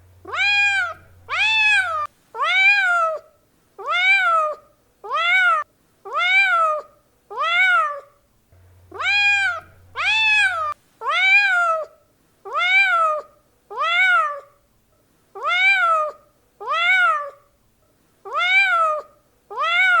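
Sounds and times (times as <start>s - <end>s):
cat meowing: 0.2s - 8.2s, 8.9s - 14.6s, 15.4s - 17.5s, 18.3s - 20.0s.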